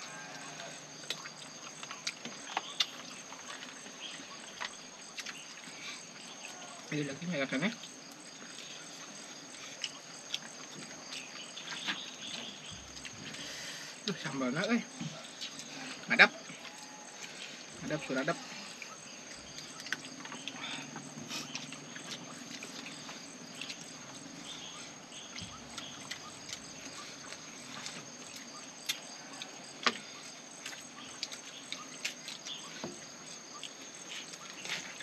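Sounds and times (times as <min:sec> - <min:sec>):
insects shrilling: 0:00.0 - 0:35.0
people eating by hand: 0:00.0 - 0:35.0.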